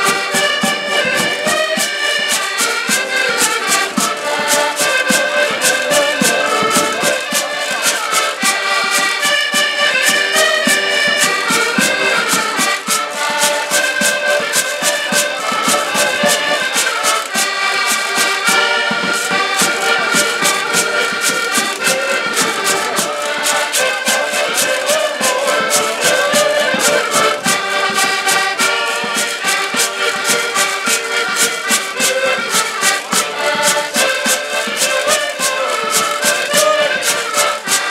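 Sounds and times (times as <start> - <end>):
accordions playing folk tune: 0.0 - 37.9.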